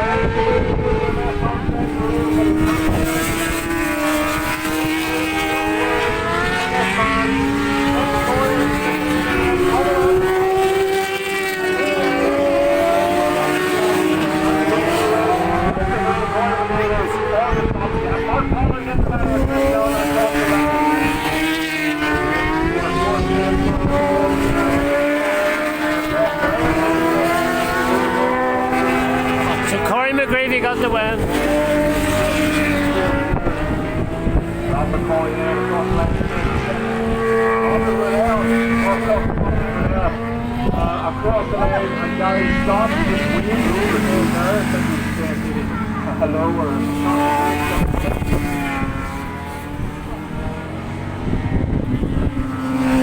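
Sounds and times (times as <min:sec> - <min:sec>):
racing motorcycles passing: 0:00.0 - 0:53.0
wind buffeting microphone: 0:00.0 - 0:53.0.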